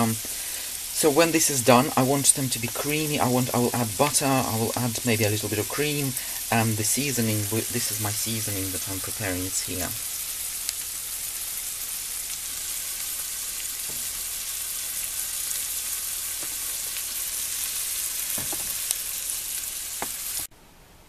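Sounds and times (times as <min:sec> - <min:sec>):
vegetables sizzling in hot oil: 0:00.0 - 0:20.5
faint crackles: 0:02.2 - 0:20.5.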